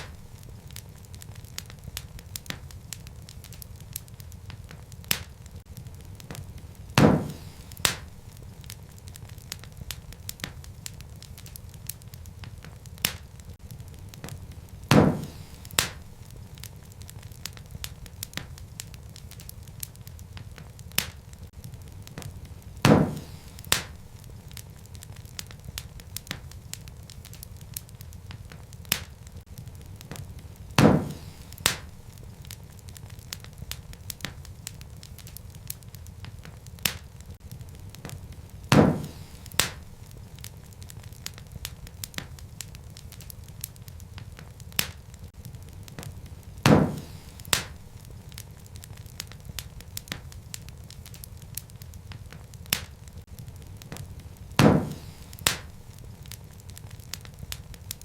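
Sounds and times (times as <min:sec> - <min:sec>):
low rumble of fire: 0:00.0 - 0:58.0
sharp pops of fire: 0:00.0 - 0:58.0
wood fire crackling: 0:00.0 - 0:58.0.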